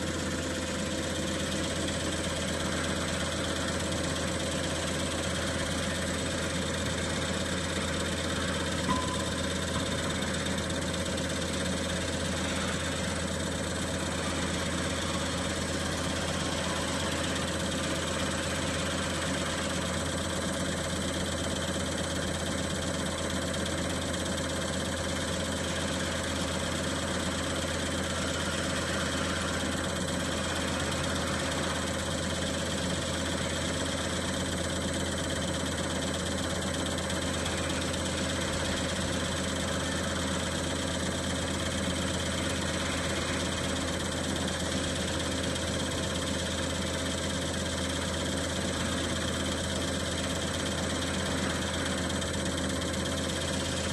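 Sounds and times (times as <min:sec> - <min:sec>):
test bench mechanical hum: 0:00.0 - 0:53.9.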